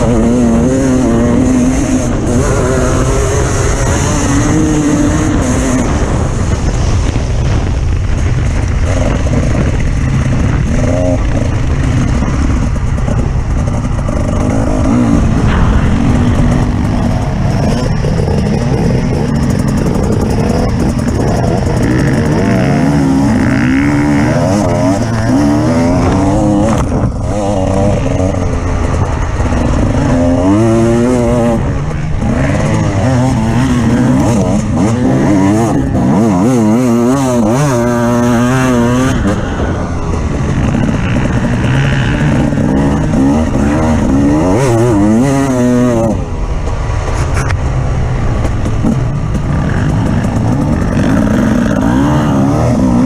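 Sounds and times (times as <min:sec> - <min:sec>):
off-road vehicle engine revving: 0:00.0 - 0:07.2, 0:08.4 - 0:47.6, 0:48.2 - 0:53.0
heavy low rumble: 0:00.0 - 0:53.0.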